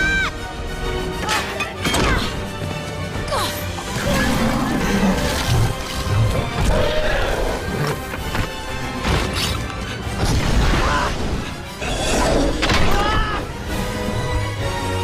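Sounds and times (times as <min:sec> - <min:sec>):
dramatic orchestral music: 0:00.0 - 0:15.0.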